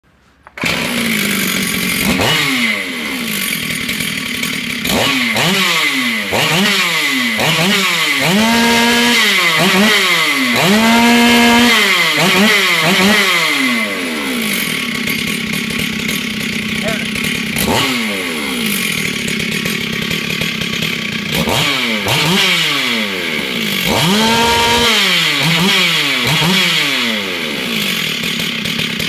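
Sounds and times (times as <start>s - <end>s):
chainsaw engine revving: 0.5s - 29.0s.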